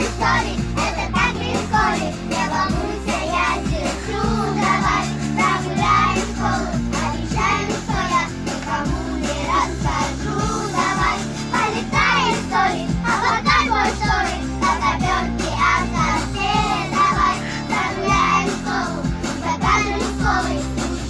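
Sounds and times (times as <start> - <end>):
child singing: 0.0 - 21.0
instrumental backing track: 0.0 - 21.0.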